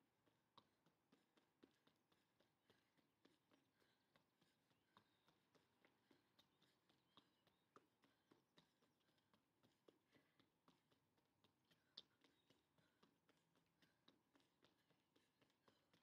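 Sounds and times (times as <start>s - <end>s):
faint ticks and taps: 0.0s - 16.0s.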